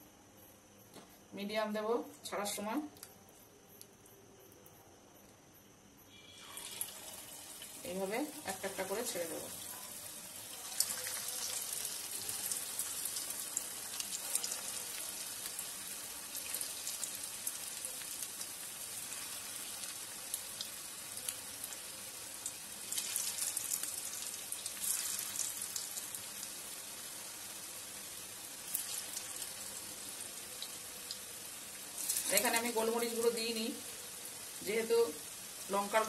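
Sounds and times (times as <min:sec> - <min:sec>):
food deep-frying in hot oil: 0:06.1 - 0:36.0.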